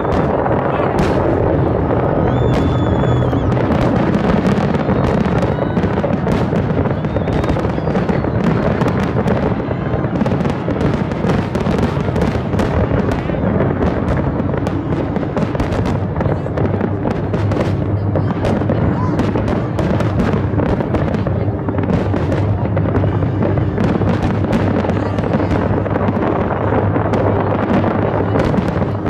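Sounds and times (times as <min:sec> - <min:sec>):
firework bursts and booms: 0:00.0 - 0:29.0
firework cracks and crackles: 0:00.0 - 0:29.0
low rumble: 0:00.0 - 0:29.0.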